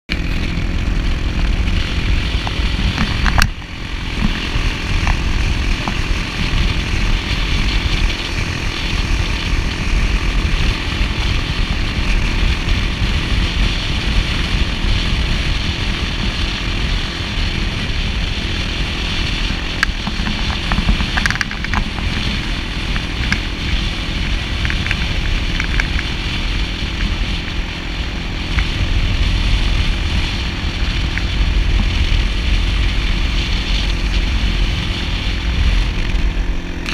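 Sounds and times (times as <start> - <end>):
quad bike engine running: 0.1 - 36.9.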